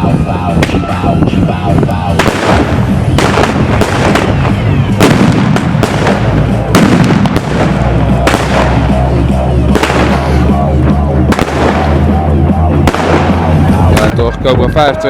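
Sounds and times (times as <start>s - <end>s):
fireworks bangs: 0.0s - 1.4s, 2.0s - 14.3s
music with bass line: 0.0s - 15.0s.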